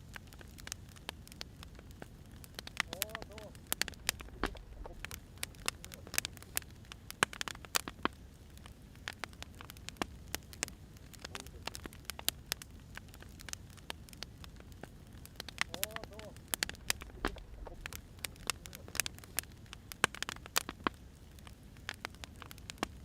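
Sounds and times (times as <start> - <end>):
firewood popping and crackling: 0.0 - 23.0
low fire rumble: 0.0 - 23.0.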